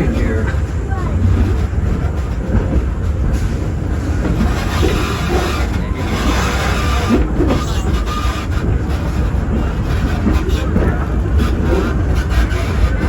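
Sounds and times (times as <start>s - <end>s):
train car rumbling and rattling: 0.0s - 13.0s.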